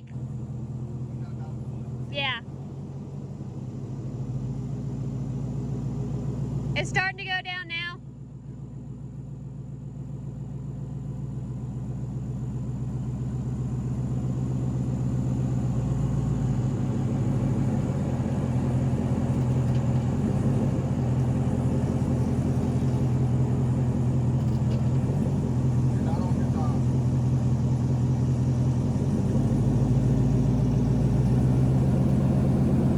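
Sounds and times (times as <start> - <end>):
car engine low hum: 0.0 - 32.9.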